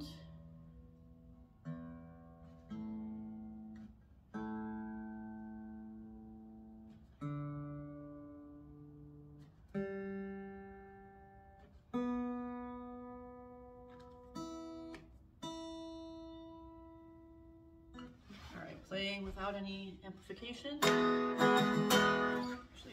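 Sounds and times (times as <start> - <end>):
guitar strings plucked: 0.0 - 18.2, 20.5 - 22.9.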